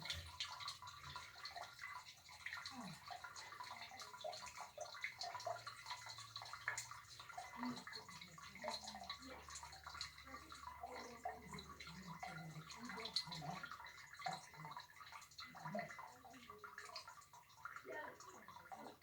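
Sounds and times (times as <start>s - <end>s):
water gurgling in pipes: 0.0s - 19.0s.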